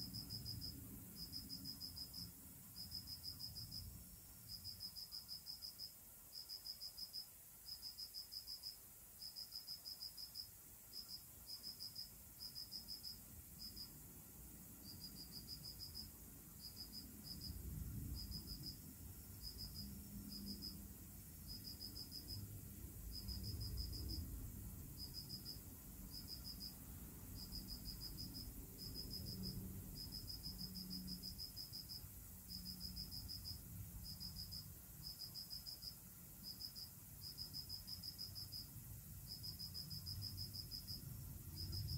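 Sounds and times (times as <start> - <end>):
insect chirping in pulses: 0.0 - 41.9.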